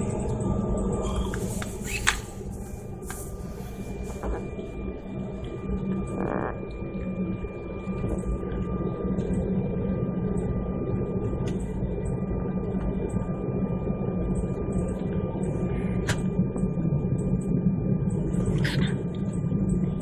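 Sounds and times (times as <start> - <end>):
jet engines low rumble: 0.0 - 20.0
thin constant whine: 0.0 - 20.0.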